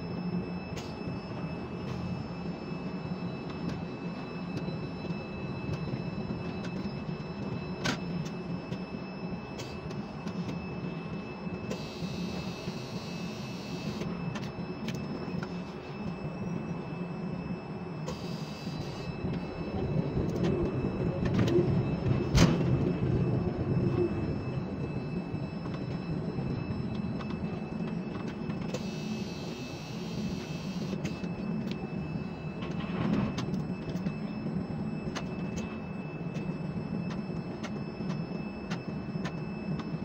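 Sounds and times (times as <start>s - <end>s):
crane machinery hum and rumble: 0.0s - 40.0s.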